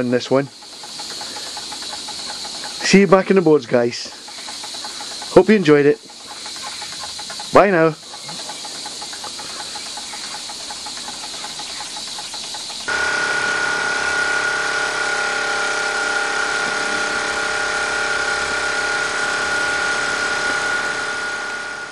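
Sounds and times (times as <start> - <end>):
mechanical whirring and humming: 0.0 - 21.9
toy steam engine hissing: 0.0 - 21.9.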